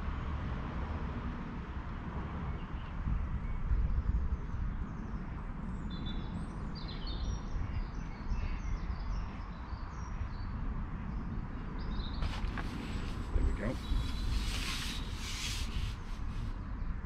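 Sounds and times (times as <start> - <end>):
songbirds chirping: 2.4 - 17.0.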